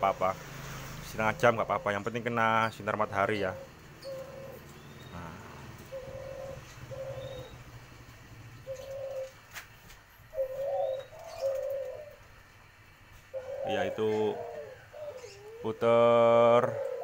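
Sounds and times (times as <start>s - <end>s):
doves cooing: 0.1s - 17.0s.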